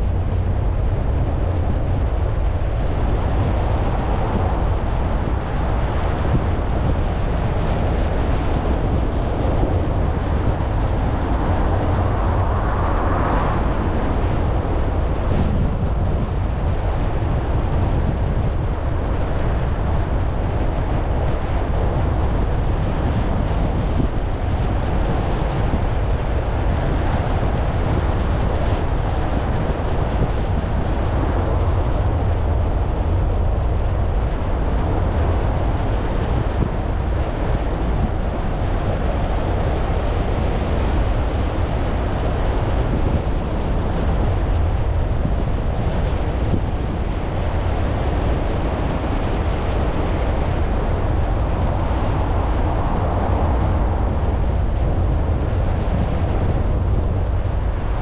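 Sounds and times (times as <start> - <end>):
wind noise: 0.0 - 58.0.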